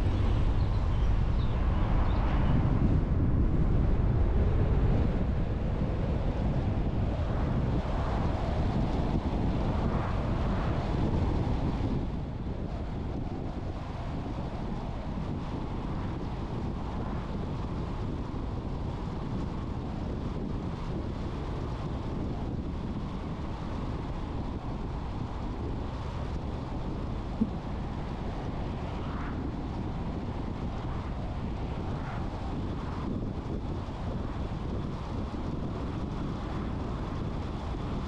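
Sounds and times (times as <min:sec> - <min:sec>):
car road noise: 0:00.0 - 0:18.3, 0:19.7 - 0:38.0
wind buffeting microphone: 0:00.0 - 0:38.0.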